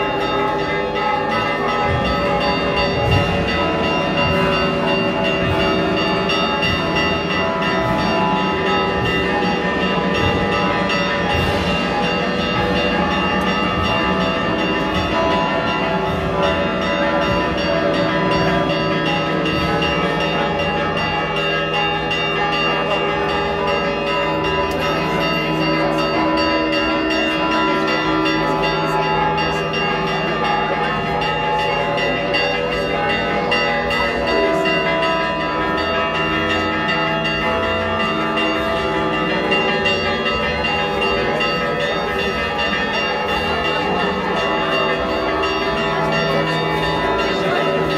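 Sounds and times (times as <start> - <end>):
church bells ringing: 0.0 - 47.9
crowd voices: 0.0 - 47.9.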